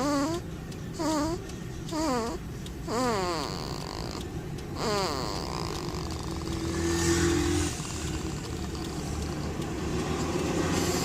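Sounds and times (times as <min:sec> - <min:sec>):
baby snoring: 0:00.0 - 0:09.5.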